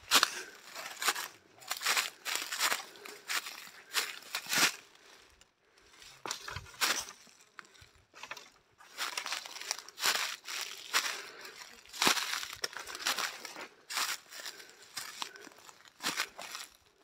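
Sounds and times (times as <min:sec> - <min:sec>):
footsteps crunching through dry leaves: 0:00.0 - 0:05.3, 0:06.0 - 0:07.8, 0:08.8 - 0:17.0.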